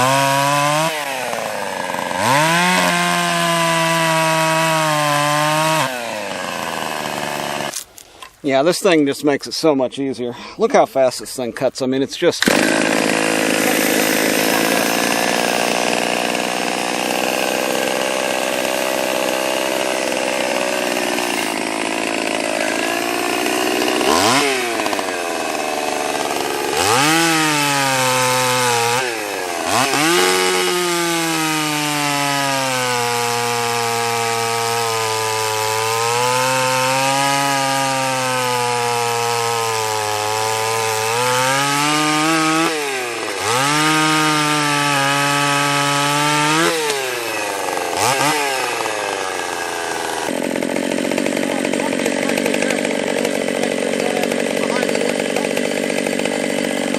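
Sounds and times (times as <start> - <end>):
chainsaw cutting branches: 0.0 - 8.3, 12.4 - 56.9.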